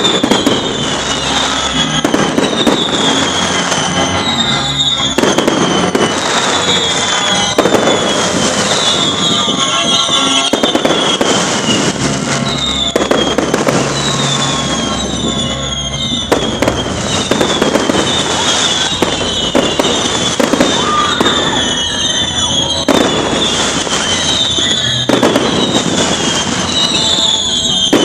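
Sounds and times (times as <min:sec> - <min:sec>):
fireworks bangs and crackling: 0:00.0 - 0:28.0
fireworks falling whistles: 0:00.0 - 0:28.0.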